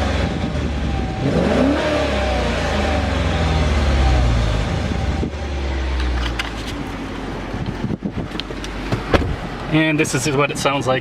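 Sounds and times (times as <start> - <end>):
car engine revving: 0.0 - 9.7
car engine idling: 0.0 - 11.0.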